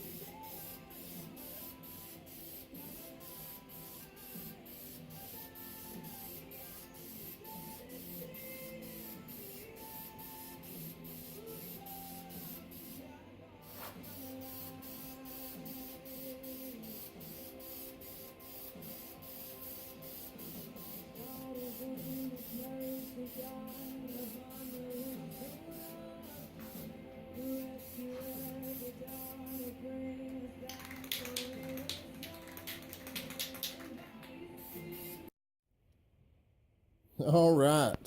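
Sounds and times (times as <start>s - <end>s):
instrumental music with hissing beat: 0.0s - 35.3s.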